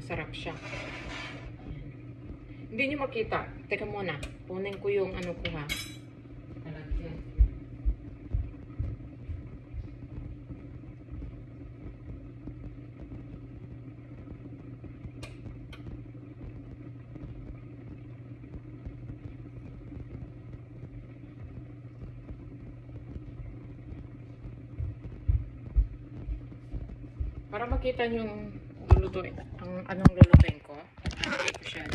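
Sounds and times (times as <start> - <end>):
kitchen appliance humming: 0.0 - 31.9.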